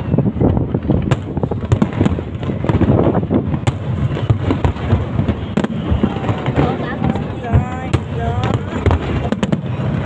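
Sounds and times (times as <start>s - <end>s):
fireworks crackling: 0.0s - 10.0s
low rumble of booms: 0.0s - 10.0s
sharp firework cracks: 0.4s - 10.0s.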